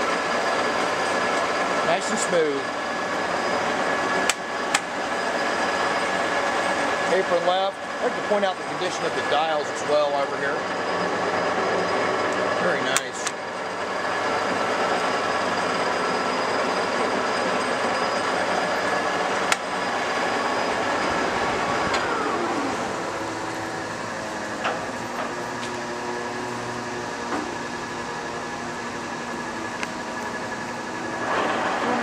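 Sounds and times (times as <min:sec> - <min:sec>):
lathe gear whine: 0:00.0 - 0:32.0.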